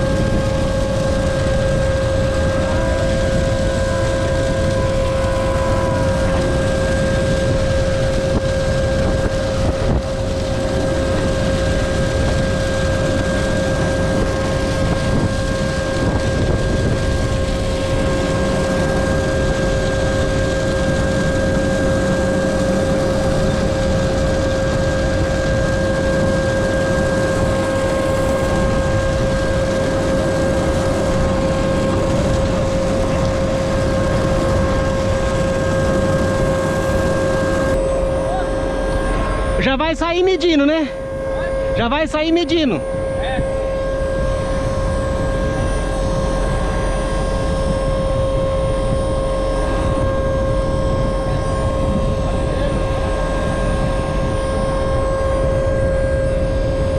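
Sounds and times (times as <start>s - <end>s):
high whine: 0.0s - 56.9s.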